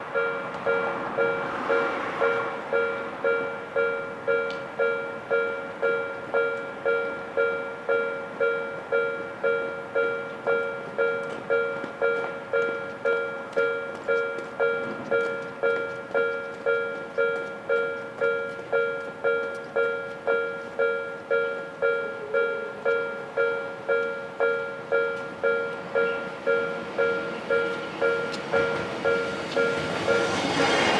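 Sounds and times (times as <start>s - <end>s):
level crossing warning bell ringing: 0.0s - 30.6s.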